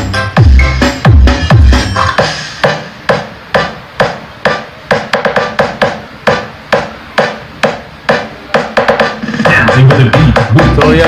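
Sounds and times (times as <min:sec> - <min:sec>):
loud percussion-led music: 0:00.0 - 0:11.0.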